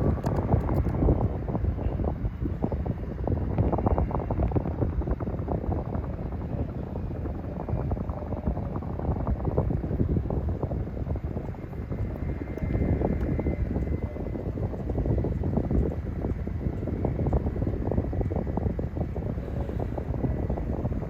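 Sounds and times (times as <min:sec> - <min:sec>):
helicopter rotor chopping: 0:00.0 - 0:21.0
turbine rumble: 0:00.0 - 0:21.0.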